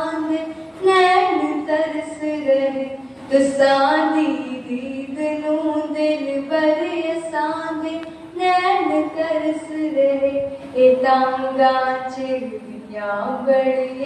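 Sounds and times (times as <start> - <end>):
girl singing into microphone: 0.0 - 14.0.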